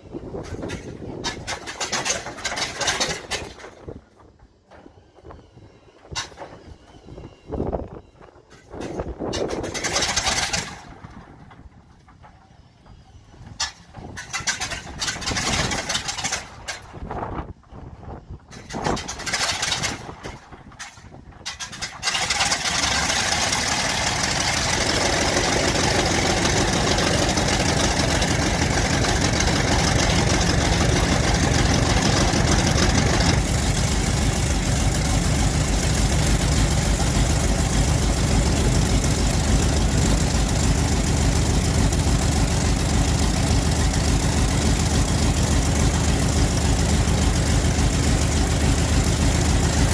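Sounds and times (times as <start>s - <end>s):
piston aircraft engine starting: 0.0s - 4.9s, 8.6s - 17.4s, 18.5s - 49.9s.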